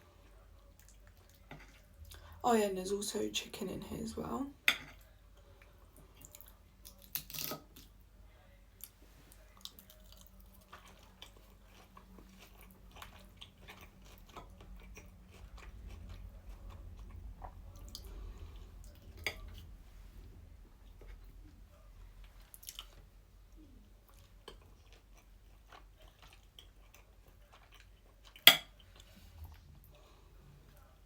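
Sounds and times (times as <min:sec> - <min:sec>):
person chewing food: 0:00.1 - 0:02.3, 0:04.8 - 0:07.9, 0:08.8 - 0:20.1, 0:20.8 - 0:31.0.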